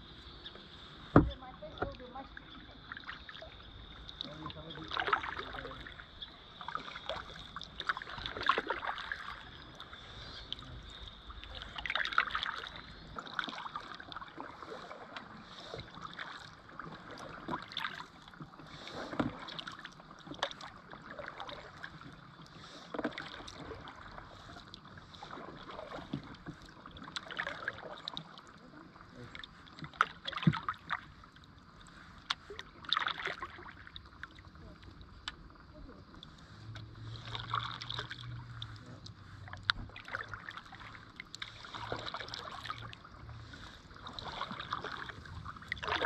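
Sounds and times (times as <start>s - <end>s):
paddle swishing and splashing: 0.0s - 46.0s.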